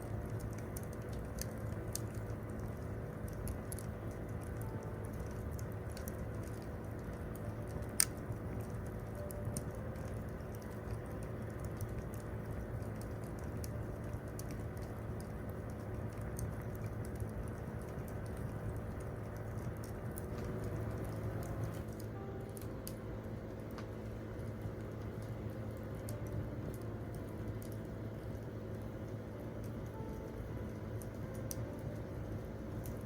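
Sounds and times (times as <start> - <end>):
campfire crackling: 0.0 - 33.0.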